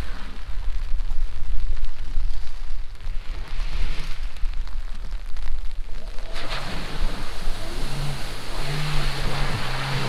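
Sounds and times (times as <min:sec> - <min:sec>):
steady hiss: 0:00.0 - 0:10.0
wind rumbling on microphone: 0:00.0 - 0:10.0.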